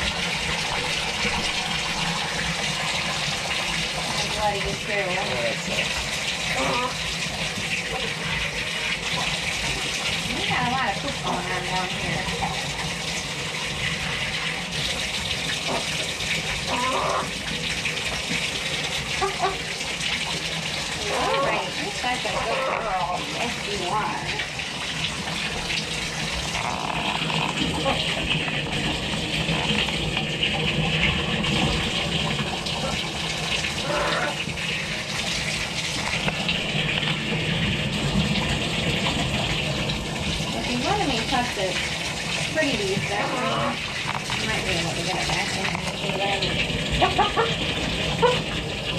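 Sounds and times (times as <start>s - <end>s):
water pouring into a bathtub: 0.0s - 48.9s.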